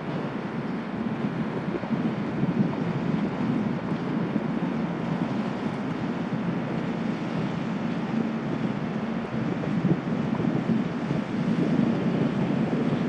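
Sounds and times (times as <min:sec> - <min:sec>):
rush of boat wake: 0:00.0 - 0:13.0
wind buffeting microphone: 0:00.0 - 0:13.0.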